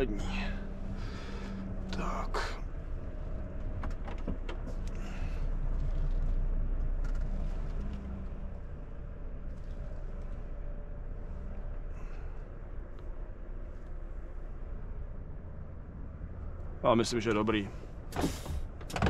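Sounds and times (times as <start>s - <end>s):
diesel truck engine rumble: 0.0s - 19.0s.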